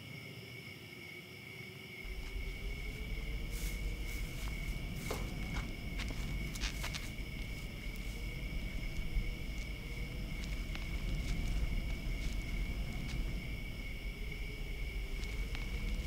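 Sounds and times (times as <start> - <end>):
crickets chirring: 0.0 - 16.0
footsteps crunching on straw: 2.0 - 16.0
low background rumble: 2.0 - 16.0.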